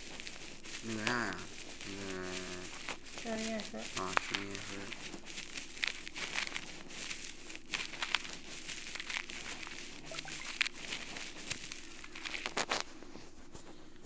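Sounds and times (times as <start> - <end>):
ear tool scraping earwax: 0.0 - 14.0.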